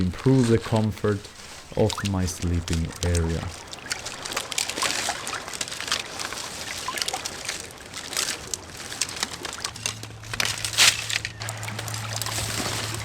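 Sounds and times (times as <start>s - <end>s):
dry seaweed rustling and crunching: 0.0s - 13.0s
water lapping at shore: 0.0s - 13.0s.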